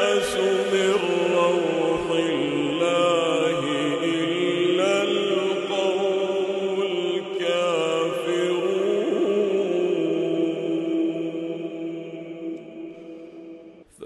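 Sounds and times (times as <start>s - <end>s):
man chanting melodically: 0.0s - 13.1s.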